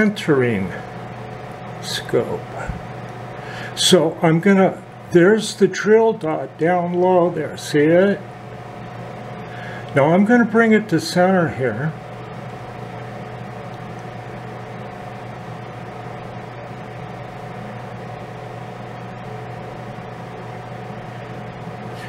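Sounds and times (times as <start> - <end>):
machine hum: 0.0 - 22.0
thin whine: 0.0 - 22.0.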